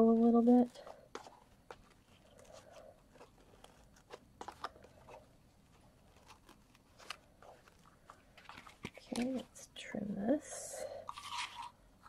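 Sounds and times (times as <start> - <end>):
ribbon and card rustling: 0.0 - 9.7, 11.0 - 11.8.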